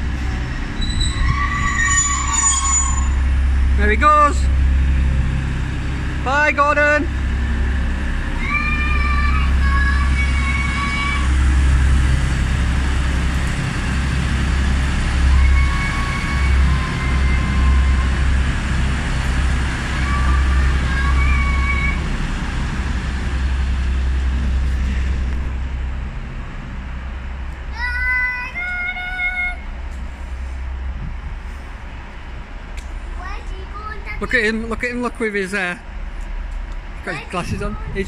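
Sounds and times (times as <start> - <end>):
train rumbling away: 0.0 - 38.0.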